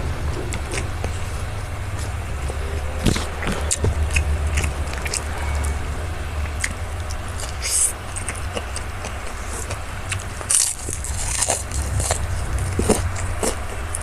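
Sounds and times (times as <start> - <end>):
chewing: 0.0 - 14.0
mouth clicks: 0.0 - 14.0
steady low hum: 0.0 - 14.0
lip smacks: 0.3 - 14.0.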